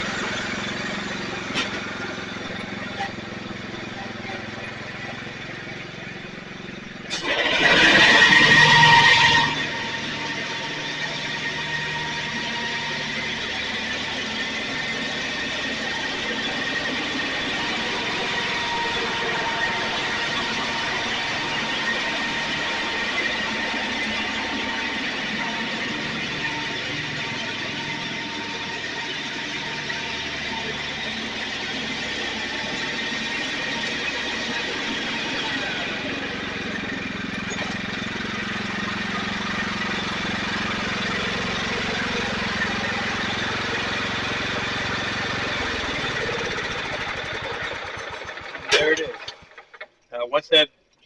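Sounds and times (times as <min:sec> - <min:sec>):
lawn tractor engine running: 0:00.0 - 0:50.1.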